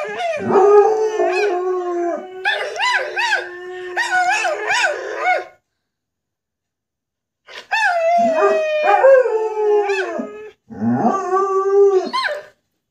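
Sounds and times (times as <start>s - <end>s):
dog howling: 0.0s - 5.6s, 7.7s - 12.5s.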